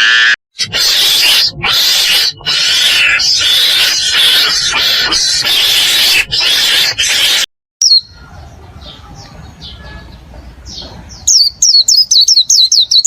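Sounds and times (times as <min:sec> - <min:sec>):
small bird chirping: 0:02.0 - 0:13.0.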